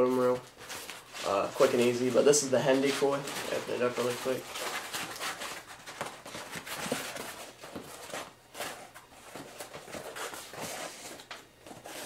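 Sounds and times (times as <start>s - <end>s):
decoy rustling and crinkling: 0.0s - 12.0s.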